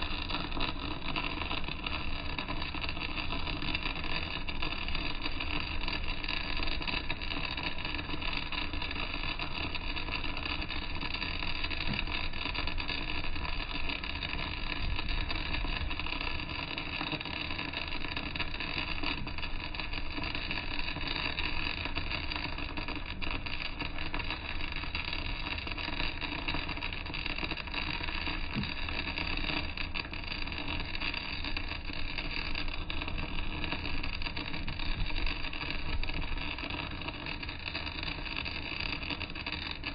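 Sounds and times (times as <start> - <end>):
arc welding crackling: 0.0 - 39.9.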